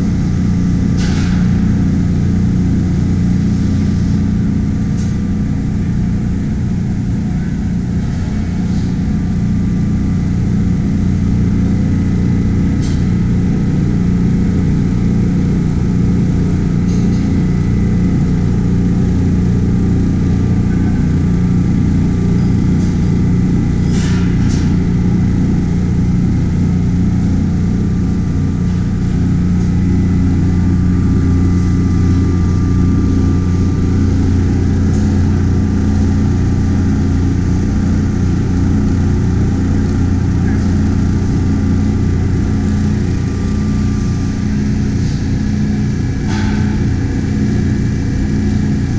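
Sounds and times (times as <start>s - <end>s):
motor and blower hum: 0.0s - 48.9s.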